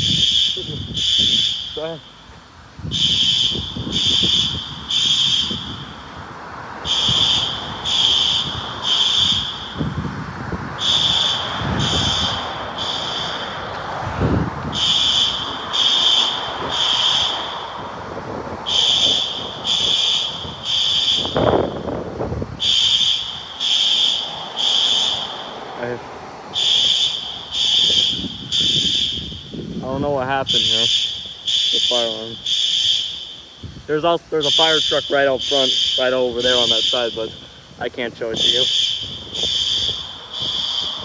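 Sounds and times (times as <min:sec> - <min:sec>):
fire alarm high-pitched beeps: 0:00.0 - 0:06.2, 0:06.8 - 0:10.1, 0:10.7 - 0:18.0, 0:18.6 - 0:41.0.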